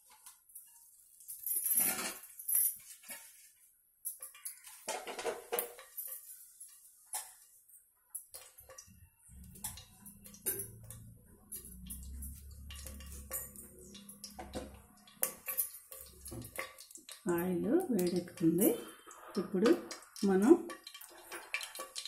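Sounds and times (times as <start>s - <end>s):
dishes and utensils clinking: 0.0s - 22.0s.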